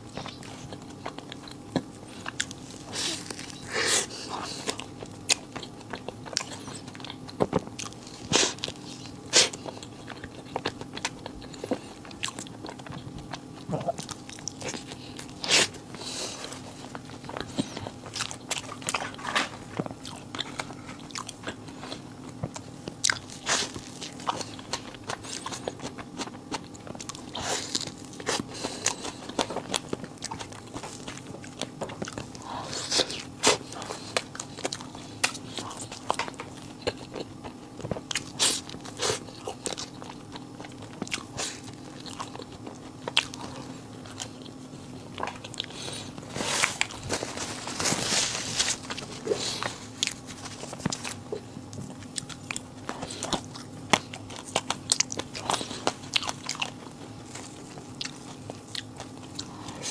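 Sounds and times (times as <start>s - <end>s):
steady low hum: 0.0s - 59.9s
crisp bites and chewing: 0.1s - 59.9s.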